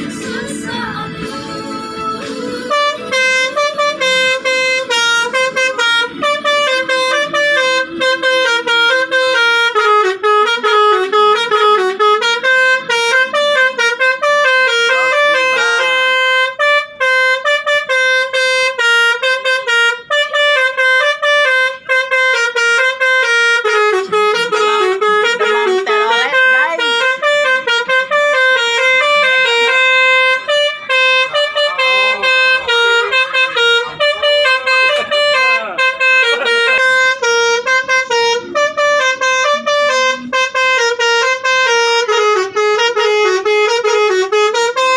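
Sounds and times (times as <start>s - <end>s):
multi-tone bus horn tune: 0.0s - 44.9s.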